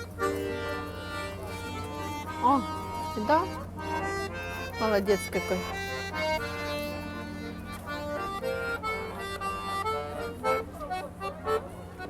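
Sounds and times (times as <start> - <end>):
accordion melody: 0.0 - 12.0.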